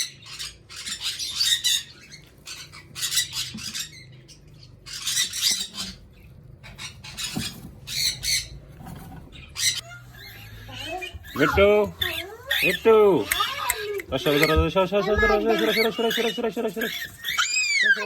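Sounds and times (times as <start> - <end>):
parrot squawking: 0.0 - 18.0.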